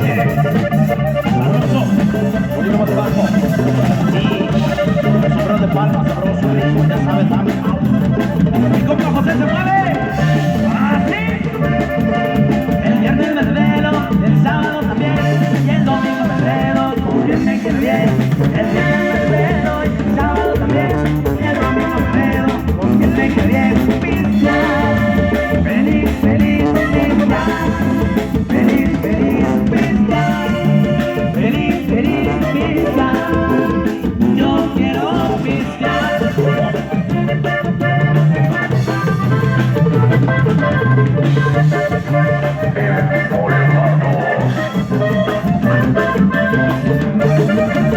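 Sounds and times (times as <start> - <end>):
live band playing cumbia: 0.0 - 47.9.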